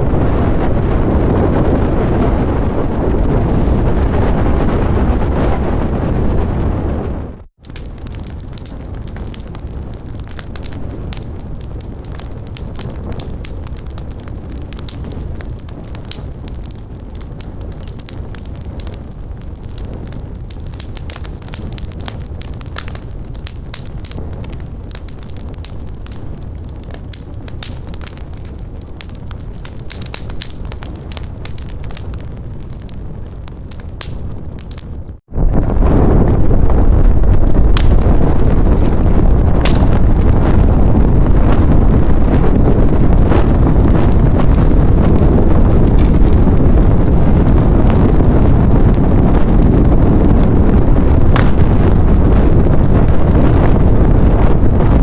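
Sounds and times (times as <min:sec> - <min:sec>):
fire crackling: 0:00.0 - 0:55.0
fire flames rushing: 0:00.0 - 0:55.0.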